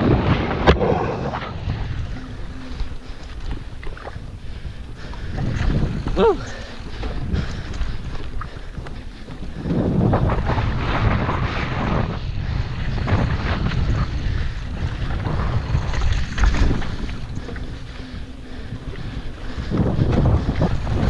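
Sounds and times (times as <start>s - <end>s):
low rumble: 0.0s - 21.0s
wind buffeting microphone: 0.0s - 21.0s.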